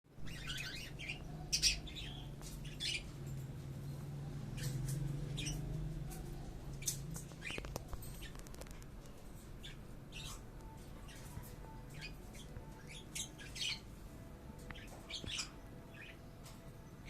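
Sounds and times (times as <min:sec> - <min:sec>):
parrots chirping and squawking: 0:00.2 - 0:03.2, 0:04.6 - 0:08.8, 0:09.6 - 0:16.6.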